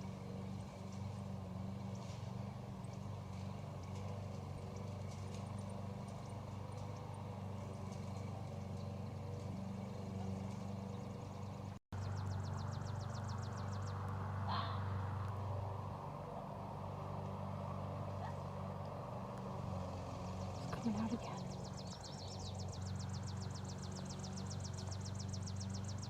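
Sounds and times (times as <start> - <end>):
lawnmower engine running: 0.0 - 26.0.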